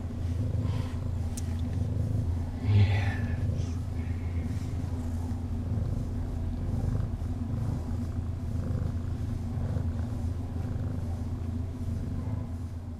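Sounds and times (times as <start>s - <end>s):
cat purring loudly: 0.0s - 12.9s.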